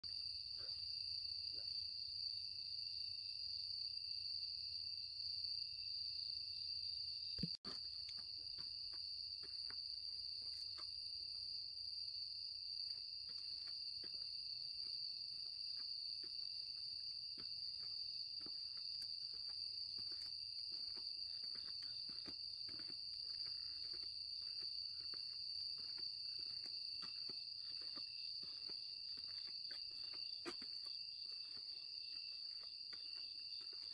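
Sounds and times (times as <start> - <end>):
insects trilling: 6.2 - 33.9.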